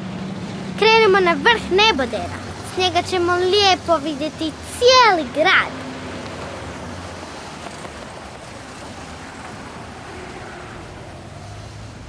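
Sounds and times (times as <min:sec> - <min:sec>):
low hum of traffic: 0:00.0 - 0:12.0.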